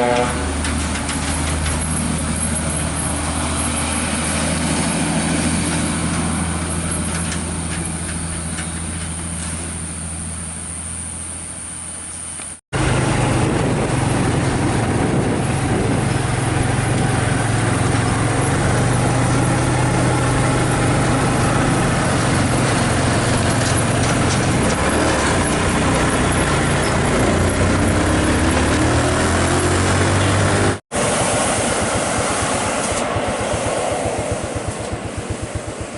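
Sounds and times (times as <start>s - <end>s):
heavy truck engine running: 0.0s - 35.9s.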